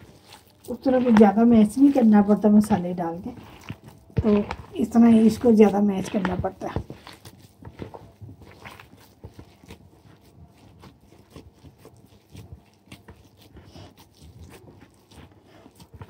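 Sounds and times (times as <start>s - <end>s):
potatoes squishing by hand: 0.0s - 16.0s.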